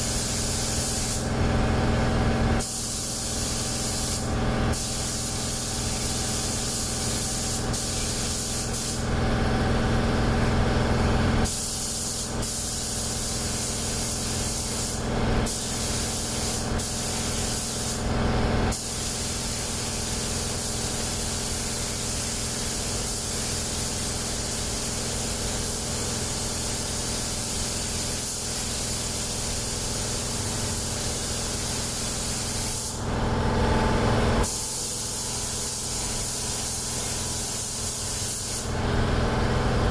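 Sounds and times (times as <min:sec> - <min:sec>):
spray gun hissing: 0:00.0 - 0:01.3, 0:02.6 - 0:09.1, 0:11.4 - 0:18.1, 0:18.7 - 0:38.8.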